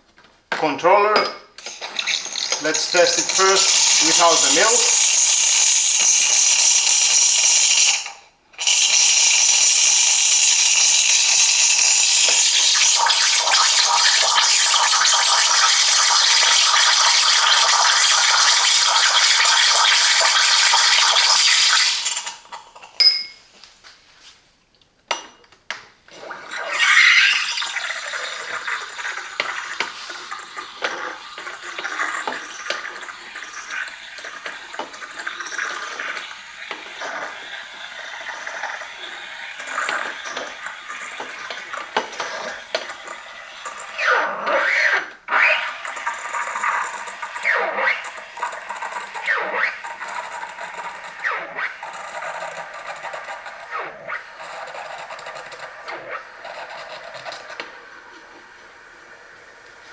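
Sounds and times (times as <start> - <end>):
espresso steam wand hissing: 1.6 - 22.4, 26.2 - 59.9.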